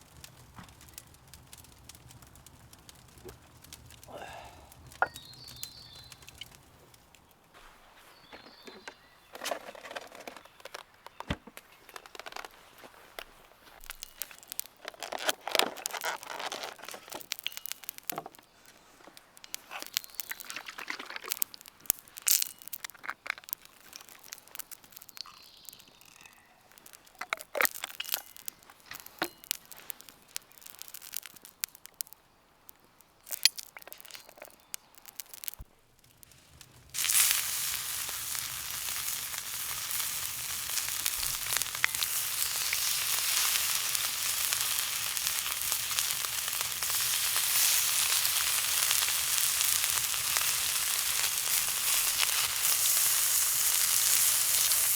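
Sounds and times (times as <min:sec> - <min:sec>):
rustling and crinkling: 0:00.0 - 0:04.1, 0:04.8 - 0:54.9.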